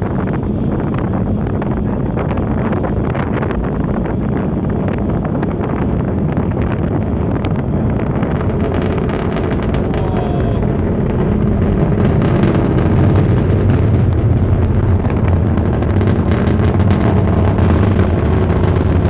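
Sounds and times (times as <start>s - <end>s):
distant rocket engine rumble: 0.0s - 19.0s
rocket engine crackles: 0.0s - 19.0s.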